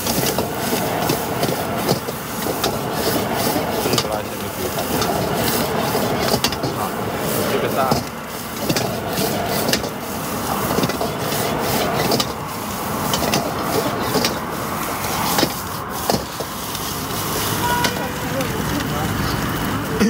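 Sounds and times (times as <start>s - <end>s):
metal spatula scraping a wok: 0.0s - 18.8s.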